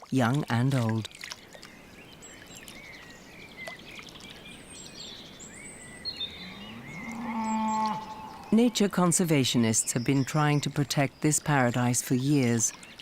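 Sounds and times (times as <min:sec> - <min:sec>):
birds chirping and calling: 0:00.8 - 0:13.0.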